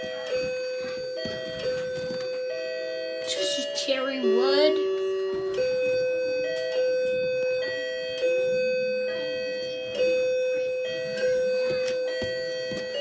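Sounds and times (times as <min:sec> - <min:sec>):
grandfather clock chiming: 0:00.0 - 0:13.0.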